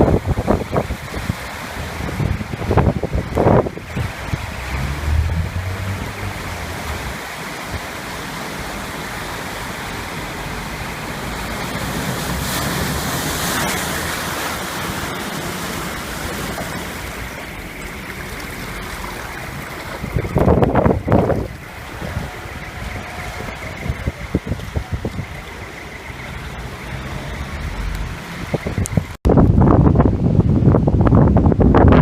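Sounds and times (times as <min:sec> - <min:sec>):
waves breaking: 0:00.0 - 0:29.1.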